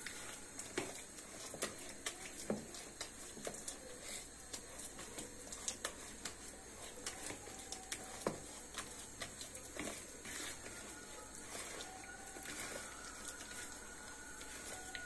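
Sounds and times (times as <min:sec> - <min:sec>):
dough being mashed in bowl: 0:00.0 - 0:15.0.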